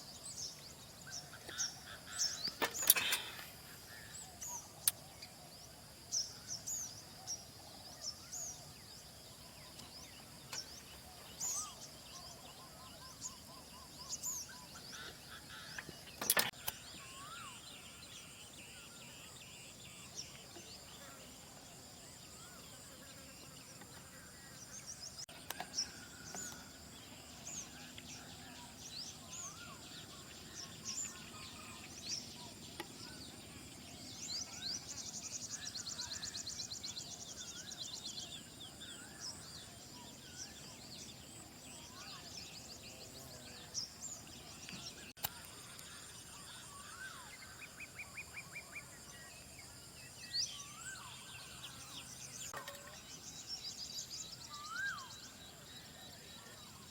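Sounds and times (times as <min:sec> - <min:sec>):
birds singing and calling: 0:00.0 - 0:56.9.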